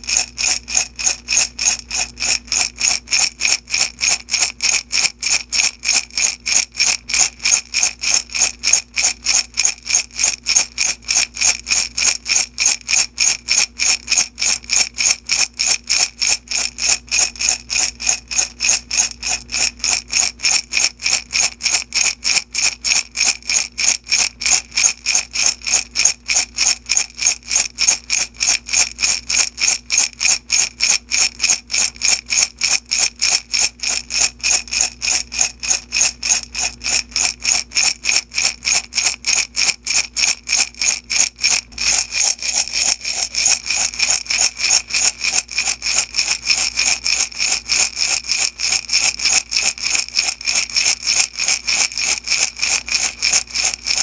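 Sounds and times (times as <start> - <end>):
beads rattling in glass jar: 0.0 - 54.0.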